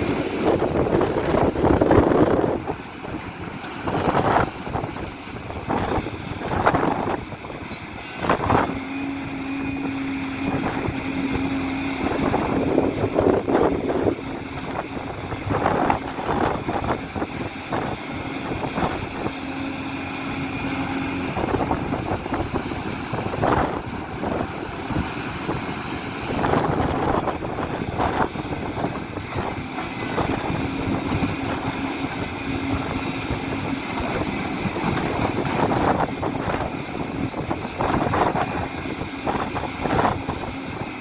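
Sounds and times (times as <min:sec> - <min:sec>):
excavator engine under load: 0:00.0 - 0:41.0
steady whine: 0:00.0 - 0:41.0.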